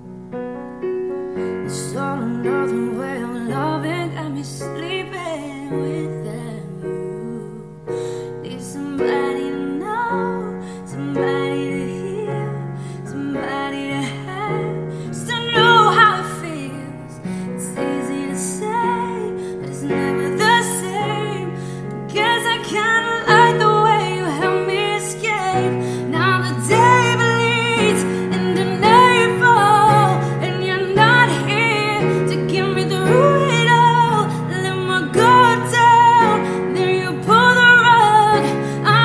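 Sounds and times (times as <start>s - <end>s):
piano chords: 0.0s - 39.0s
person singing: 1.4s - 39.0s.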